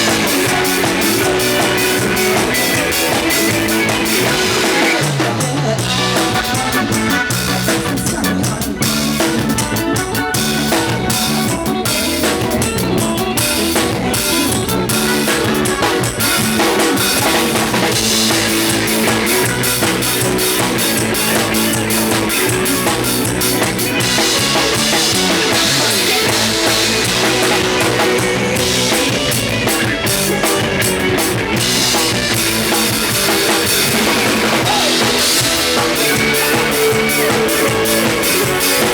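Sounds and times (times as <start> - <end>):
drum kit beat: 0.0 - 38.9
electric bass: 0.0 - 38.9
electric guitar: 0.0 - 38.9.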